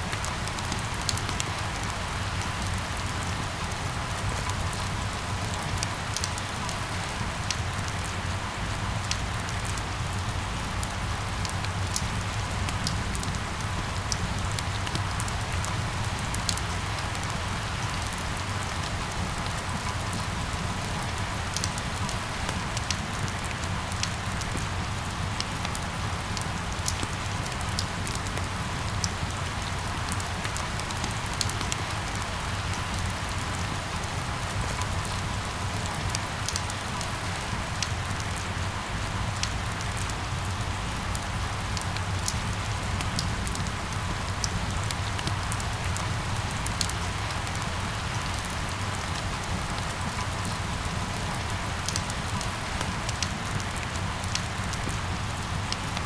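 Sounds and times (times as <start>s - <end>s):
raindrops ticking on hard surfaces: 0.0s - 56.0s
steady rain falling: 0.0s - 56.0s.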